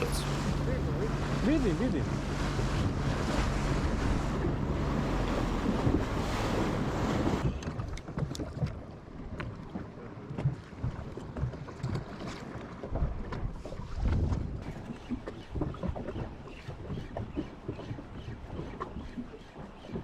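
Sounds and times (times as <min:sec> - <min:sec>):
boat engine hum: 0:00.0 - 0:20.0
rushing wind and water: 0:00.0 - 0:20.0
water lapping: 0:00.0 - 0:20.0.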